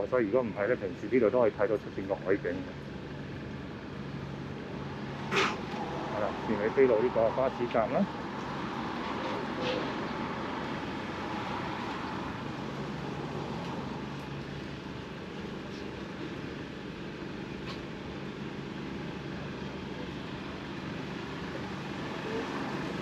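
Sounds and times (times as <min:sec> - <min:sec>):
vehicle engines humming: 0:00.0 - 0:23.0.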